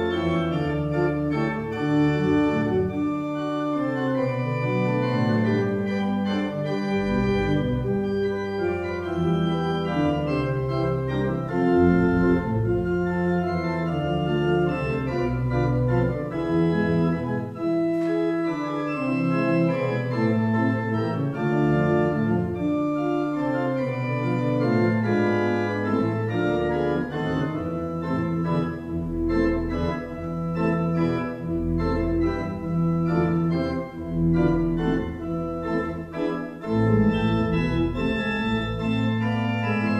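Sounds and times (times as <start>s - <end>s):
pipe organ playing chords: 0.0s - 39.9s.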